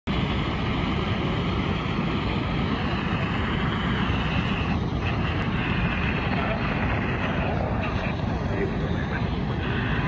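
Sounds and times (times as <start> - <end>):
shortwave radio static hiss: 0.1 - 10.0.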